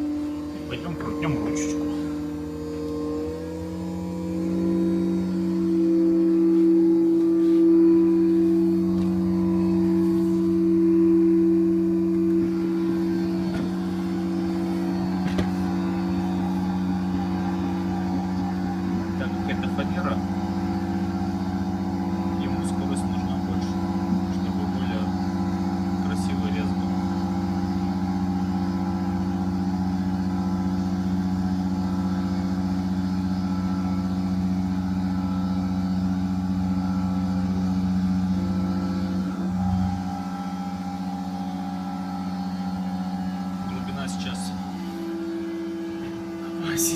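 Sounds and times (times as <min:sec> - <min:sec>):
spindle motor humming whine: 0:00.0 - 0:46.9.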